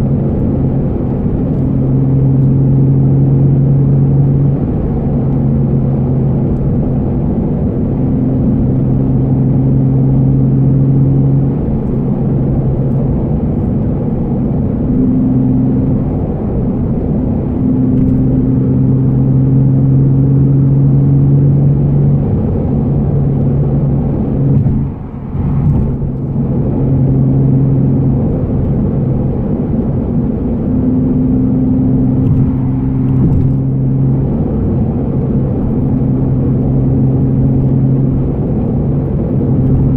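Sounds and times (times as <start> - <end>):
low engine and exhaust drone: 0.0 - 39.9.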